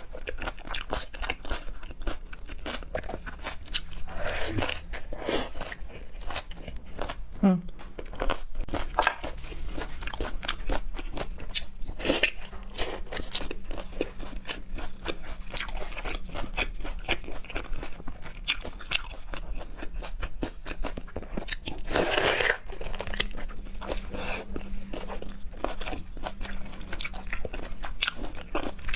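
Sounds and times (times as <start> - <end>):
wet chewing and crunching: 0.0 - 28.9.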